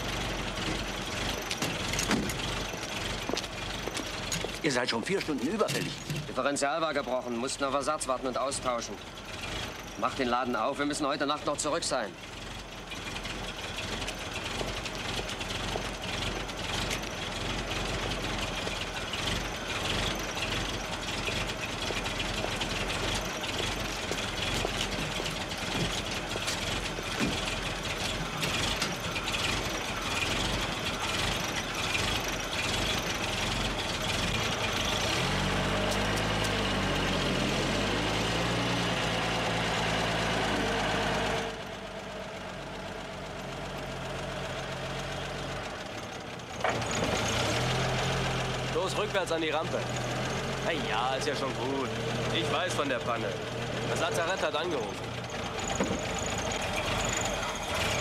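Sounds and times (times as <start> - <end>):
truck engine running rough: 0.0 - 58.0.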